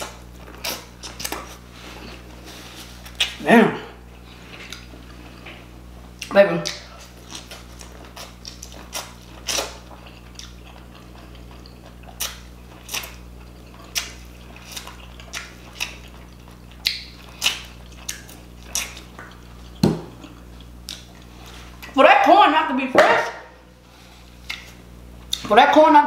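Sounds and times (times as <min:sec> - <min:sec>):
person chewing corn: 0:00.0 - 0:03.4, 0:04.0 - 0:21.9, 0:23.8 - 0:25.5.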